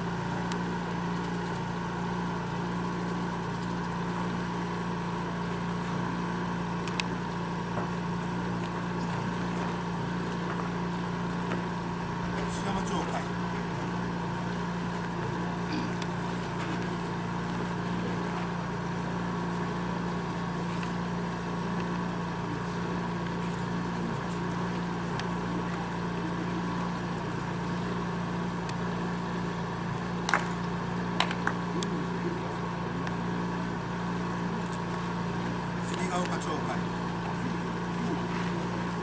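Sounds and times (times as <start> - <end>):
mechanical hum: 0.0 - 39.0.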